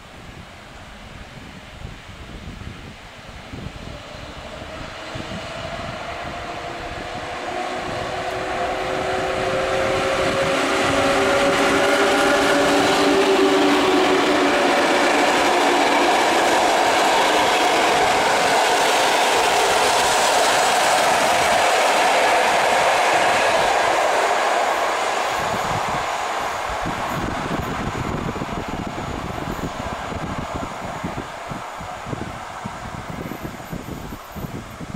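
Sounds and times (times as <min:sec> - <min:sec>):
electric locomotive whine: 0:00.0 - 0:34.9
wheels on rails: 0:03.7 - 0:34.9.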